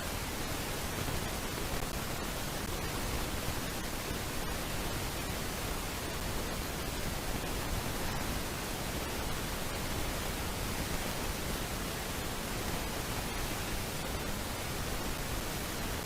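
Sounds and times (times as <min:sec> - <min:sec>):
static-like hiss: 0:00.0 - 0:16.0.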